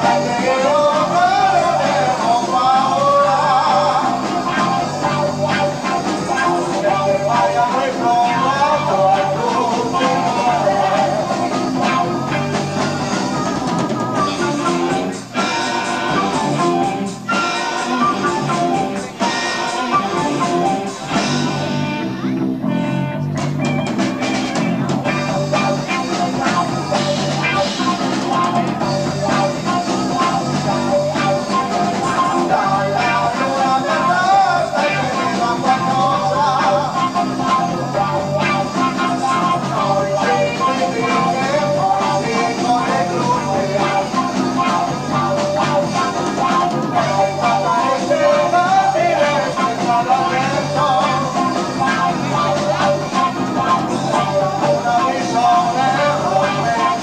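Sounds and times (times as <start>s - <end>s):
drums: 0.0s - 57.0s
guitar: 0.0s - 57.0s
rock band playing live: 0.0s - 57.0s.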